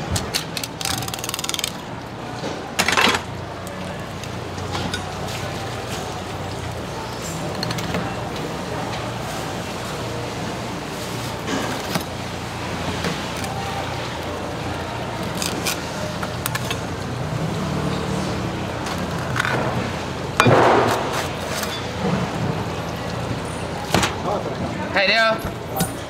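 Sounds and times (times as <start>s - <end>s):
busy shop background noise: 0.0s - 26.0s.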